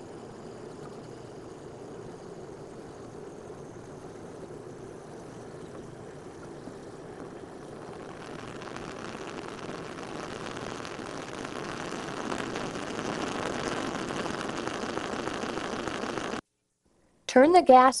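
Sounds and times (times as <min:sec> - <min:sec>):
bunsen burner flame rushing: 0:00.0 - 0:16.4.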